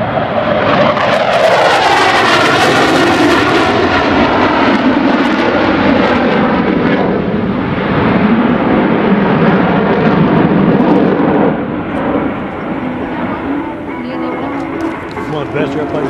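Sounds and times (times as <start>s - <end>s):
jet roaring on low pass: 0.0s - 16.0s.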